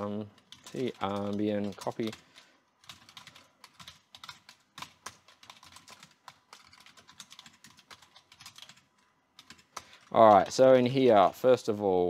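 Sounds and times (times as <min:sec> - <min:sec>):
keyboard typing: 0:00.0 - 0:11.2.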